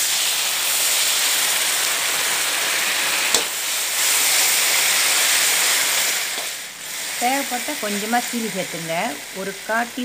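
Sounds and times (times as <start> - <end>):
paste sizzling in oil: 0.0 - 10.0.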